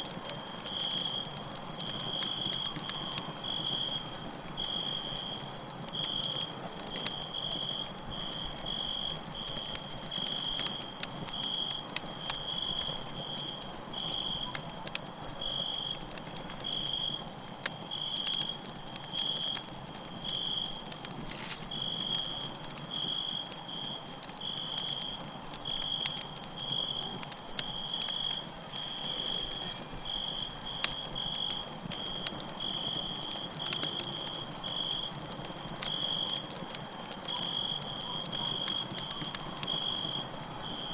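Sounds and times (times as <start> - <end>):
campfire crackling and popping: 0.0 - 40.9
crickets chirping: 0.0 - 40.9.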